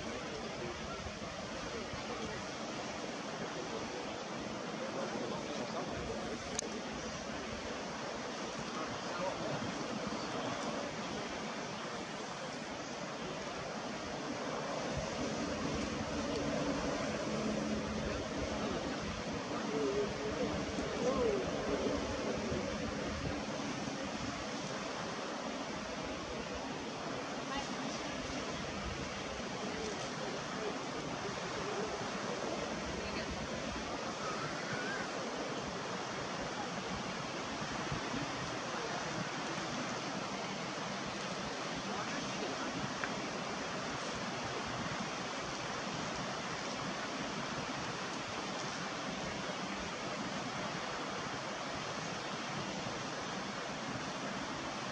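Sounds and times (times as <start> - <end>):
wind and sea rushing: 0.0 - 54.9.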